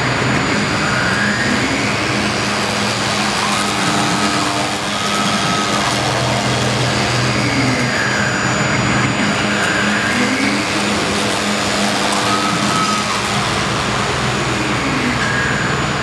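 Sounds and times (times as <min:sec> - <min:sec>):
motors whining: 0:00.0 - 0:16.0
router spindle cutting foam: 0:00.2 - 0:16.0.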